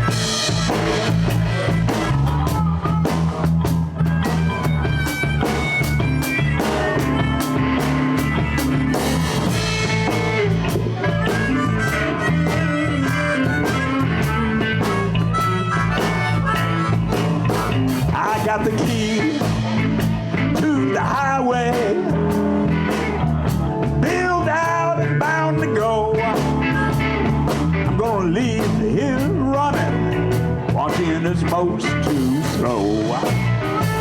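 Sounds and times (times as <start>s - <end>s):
bass guitar: 0.0s - 34.0s
blues harmonica: 0.0s - 34.0s
drum kit: 0.0s - 34.0s
electric guitar: 0.0s - 34.0s.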